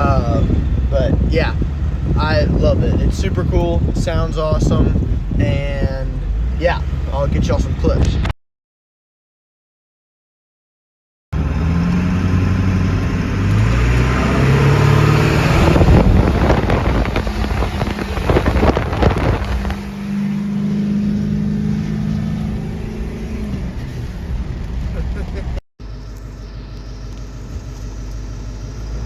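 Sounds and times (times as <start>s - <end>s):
diesel truck exhaust rumble: 0.0s - 8.1s, 11.4s - 29.0s.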